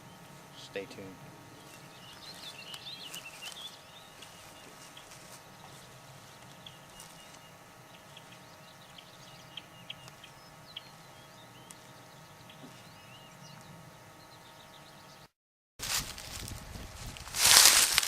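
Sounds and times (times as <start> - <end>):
songbirds chirping and singing: 0.0 - 15.3
faint steady hum: 0.0 - 18.0.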